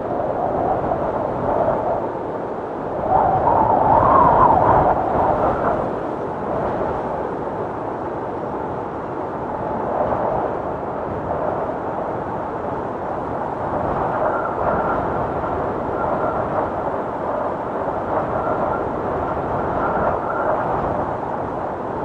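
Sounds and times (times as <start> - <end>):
tornado wind rushing: 0.0 - 22.0.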